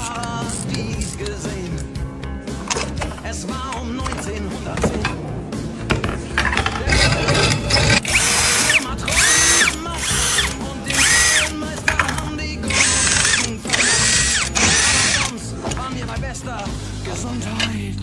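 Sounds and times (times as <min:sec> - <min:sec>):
music playing: 0:00.0 - 0:18.0
power drill whining: 0:00.0 - 0:18.0.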